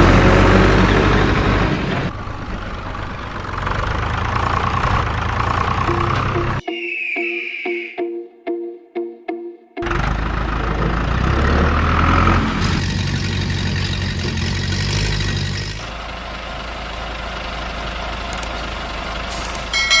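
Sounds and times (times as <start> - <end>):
diesel engine running: 0.0 - 6.6, 9.8 - 20.0.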